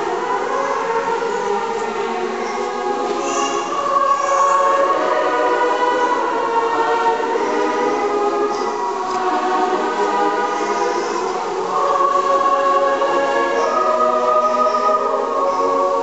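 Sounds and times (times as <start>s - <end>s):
congregation singing: 0.0s - 16.0s.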